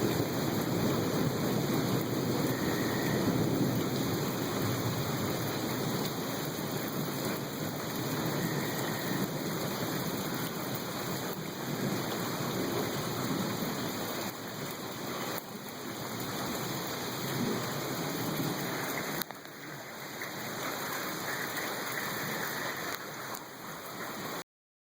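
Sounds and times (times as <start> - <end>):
steady rain falling: 0.0 - 24.4.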